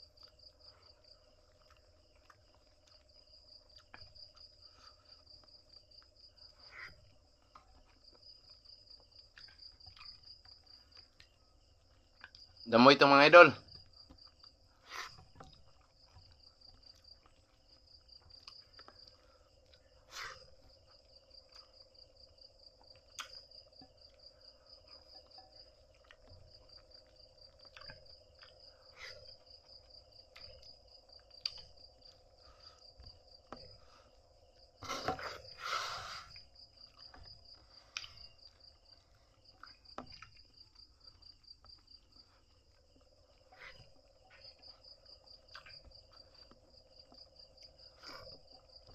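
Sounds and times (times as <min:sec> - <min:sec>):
crickets chirping: 0:00.0 - 0:48.9
faint low hum: 0:00.0 - 0:48.9.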